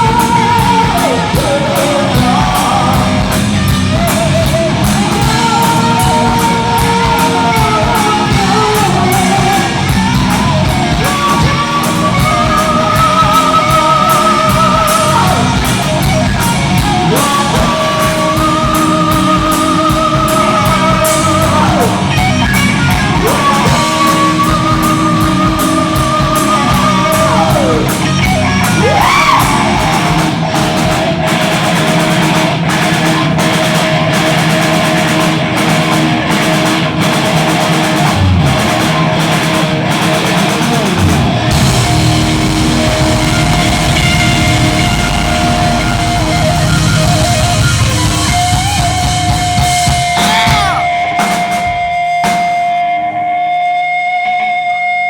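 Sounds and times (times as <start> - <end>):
bass guitar: 0.0 - 55.0
drum kit: 0.0 - 55.0
electric guitar string bends: 2.2 - 54.9.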